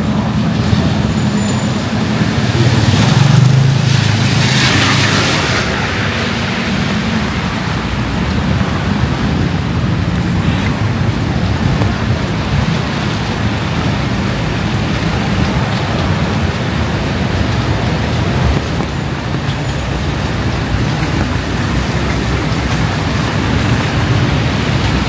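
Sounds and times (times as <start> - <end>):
city road traffic rumble: 0.0 - 25.0.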